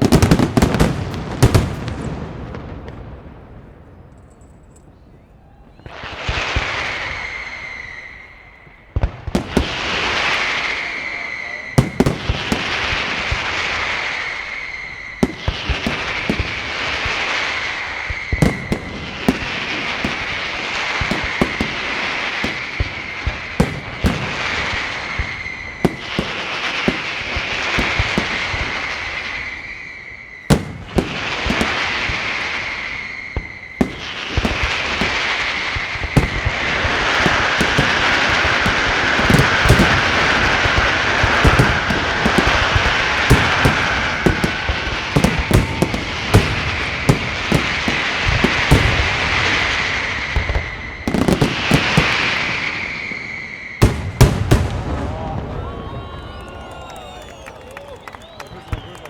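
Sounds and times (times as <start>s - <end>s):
high firework whistle: 3.9s - 59.0s
firework hissing crackle: 5.8s - 59.0s
firework shells bursting: 5.8s - 59.0s.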